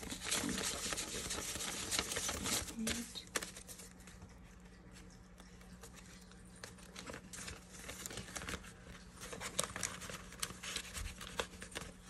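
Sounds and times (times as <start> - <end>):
banknotes and plastic crinkling: 0.0 - 4.3, 5.8 - 12.0.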